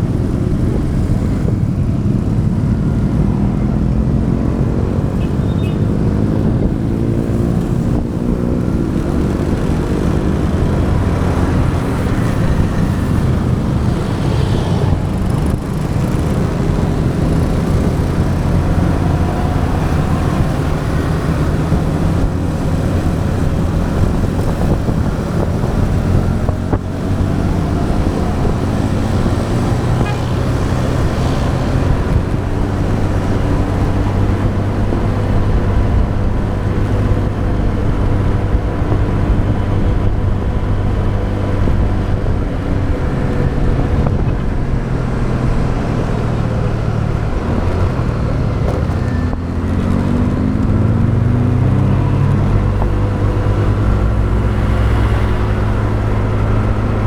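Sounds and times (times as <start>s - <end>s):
motorbike engine accelerating: 0.0s - 57.0s
road traffic: 0.0s - 57.0s.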